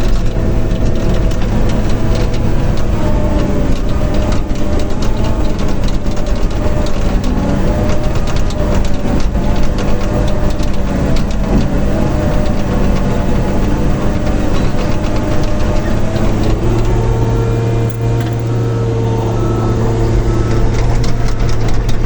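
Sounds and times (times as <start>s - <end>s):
loud diesel engine running: 0.0s - 22.0s
sharp clicks: 0.0s - 22.0s.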